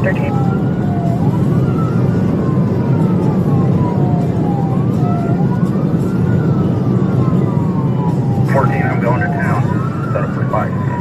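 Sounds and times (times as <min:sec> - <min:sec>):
car engine and road noise: 0:00.0 - 0:11.0
police siren wailing: 0:00.0 - 0:11.0.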